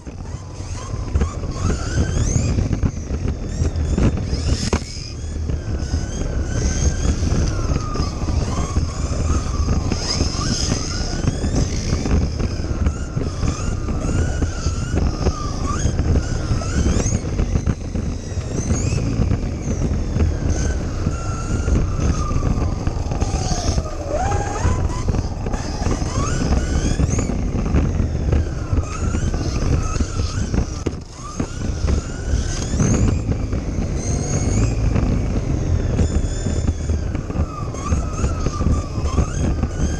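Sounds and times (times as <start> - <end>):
low rumble of drivetrain and tyres: 0.0 - 39.9
small electric motor whining: 0.0 - 39.9.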